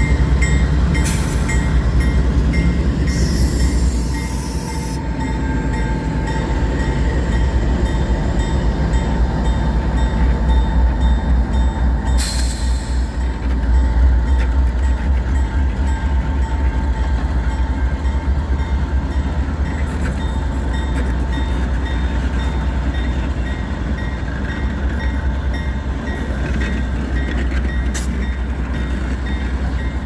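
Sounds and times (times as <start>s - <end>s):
freight train cars rumbling: 0.0s - 30.0s.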